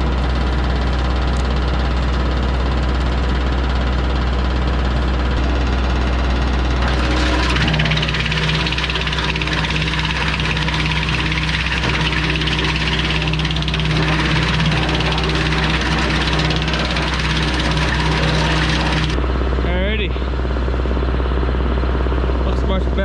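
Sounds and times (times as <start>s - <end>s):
wood chipper running: 0.0s - 22.5s
tractor diesel engine: 0.0s - 23.0s.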